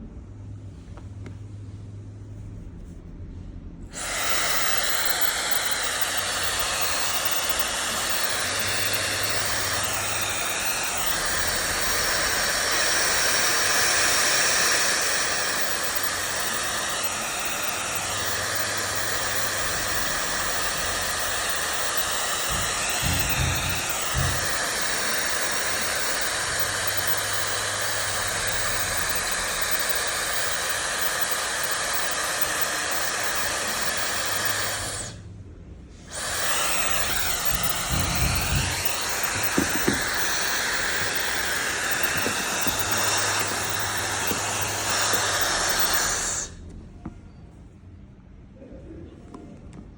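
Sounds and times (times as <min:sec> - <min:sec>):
hair dryer running: 0:03.9 - 0:35.2, 0:36.1 - 0:46.6.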